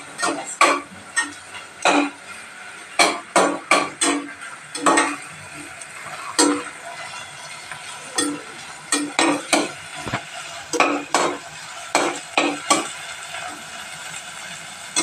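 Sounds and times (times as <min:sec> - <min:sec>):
faint frying sizzle: 0:00.0 - 0:15.0.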